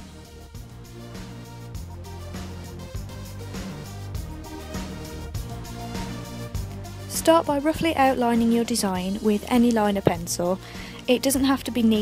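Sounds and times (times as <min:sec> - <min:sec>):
intro music with steady beat: 0:00.0 - 0:10.7
low bass notes: 0:00.0 - 0:10.8.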